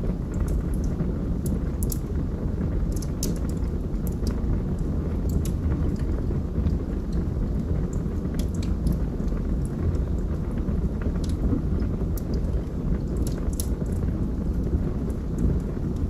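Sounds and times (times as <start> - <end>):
fire crackles and pops: 0.0 - 16.0
flames rumbling: 0.0 - 16.0.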